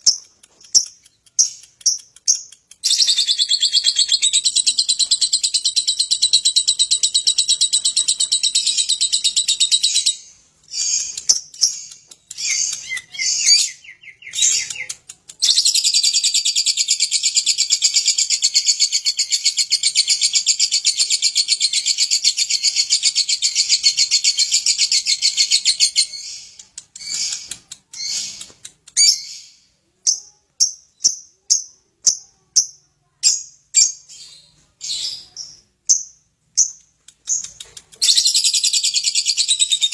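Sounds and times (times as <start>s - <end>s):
lovebird chirps: 0.0s - 39.9s.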